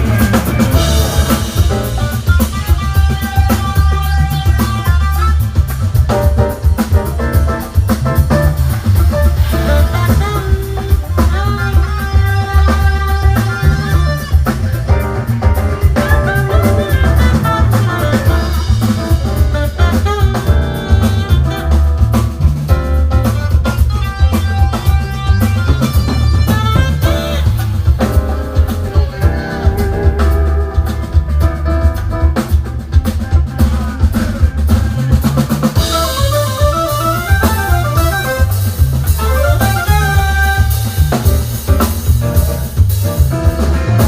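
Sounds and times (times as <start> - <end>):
bass guitar: 0.0 - 44.0
drum kit steady beat: 0.0 - 44.0
electric guitar: 0.0 - 44.0.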